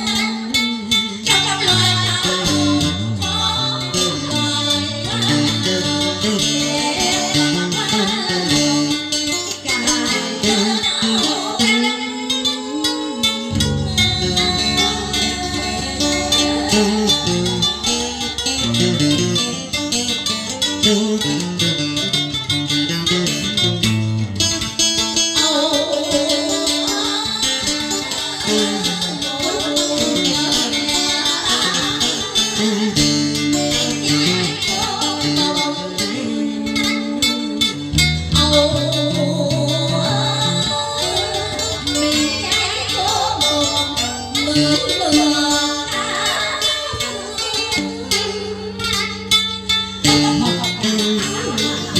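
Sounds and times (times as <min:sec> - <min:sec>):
instrumental backing track: 0:00.0 - 0:51.9.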